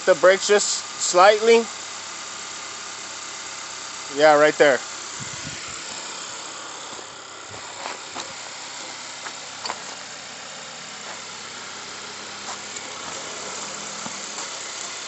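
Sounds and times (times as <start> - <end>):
car running noise: 0.0 - 15.0.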